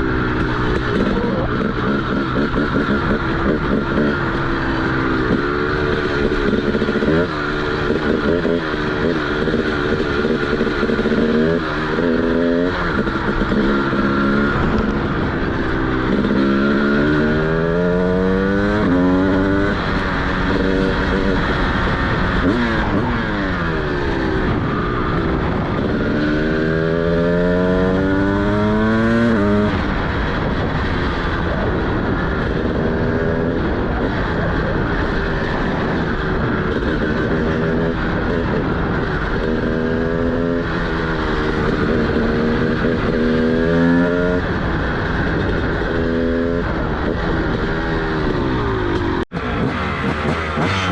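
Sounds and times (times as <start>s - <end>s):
two-stroke motorcycle accelerating: 0.0s - 50.9s.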